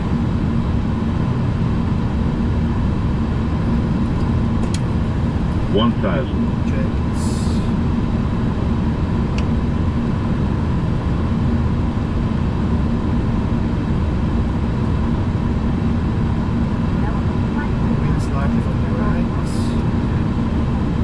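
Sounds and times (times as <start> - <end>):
cockpit engine and air hum: 0.0 - 21.0.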